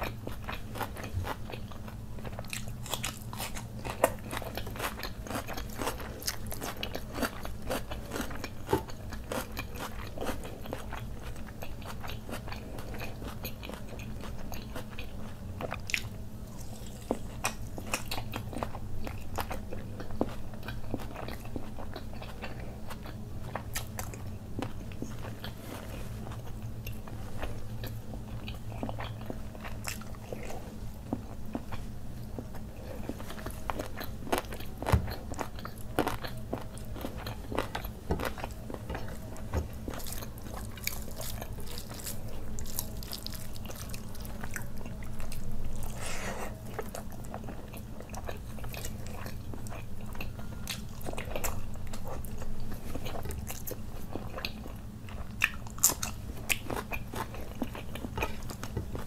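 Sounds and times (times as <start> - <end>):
steady low hum: 0.0 - 59.0
wet chewing mouth sounds: 0.0 - 59.0.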